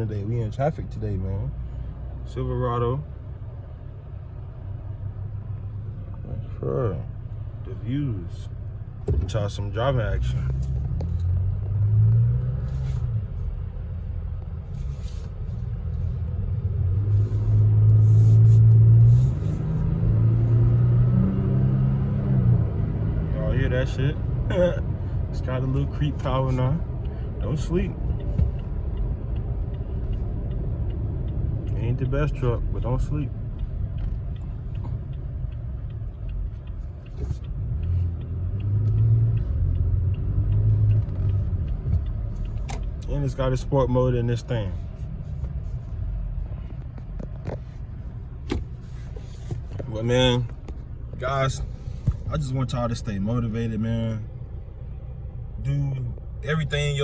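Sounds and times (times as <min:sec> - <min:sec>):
engine and road drone in cab: 0:00.0 - 0:57.0.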